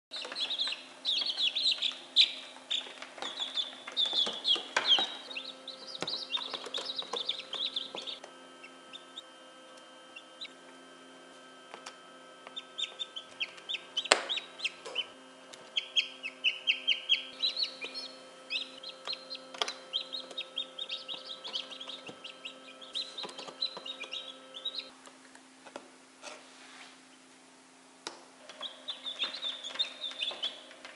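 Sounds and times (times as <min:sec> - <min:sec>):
chicks peeping rapidly: 0:00.1 - 0:10.6, 0:12.5 - 0:24.9, 0:28.5 - 0:30.9
faint steady hum: 0:00.1 - 0:30.9.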